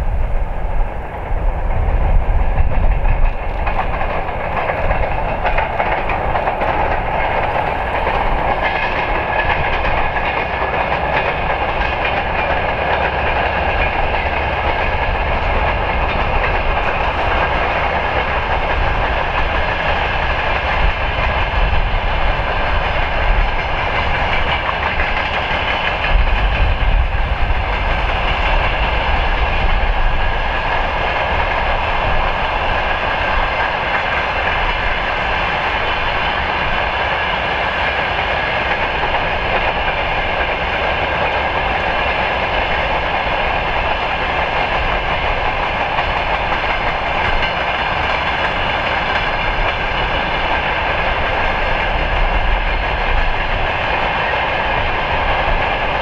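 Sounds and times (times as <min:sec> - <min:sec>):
freight train wheels clattering on rails: 0:00.0 - 0:56.0.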